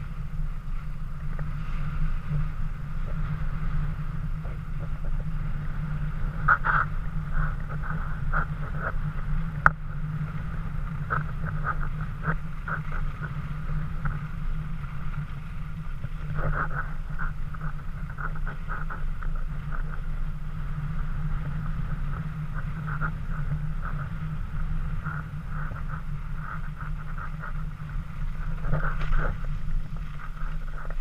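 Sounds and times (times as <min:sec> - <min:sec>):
skis sliding over snow: 0:00.0 - 0:31.0
wind buffeting camera: 0:00.0 - 0:31.0.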